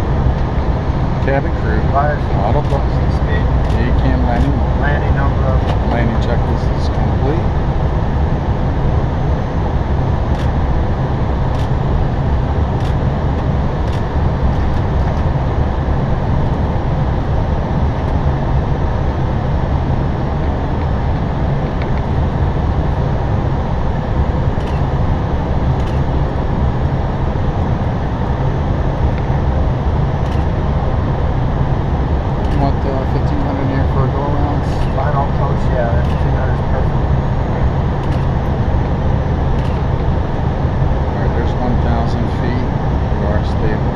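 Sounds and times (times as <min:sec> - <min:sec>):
airplane cockpit noise: 0:00.0 - 0:43.9.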